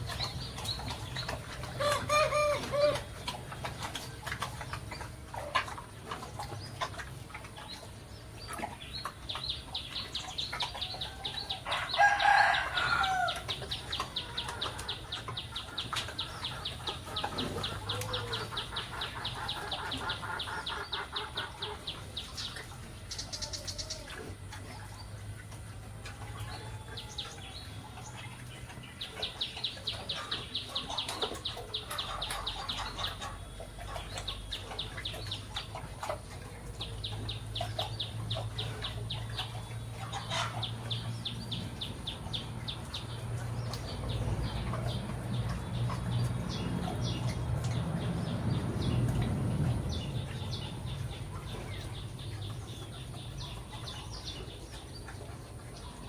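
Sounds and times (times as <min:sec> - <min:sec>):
birds trilling high chirps: 0:00.0 - 0:25.2, 0:26.4 - 0:56.0.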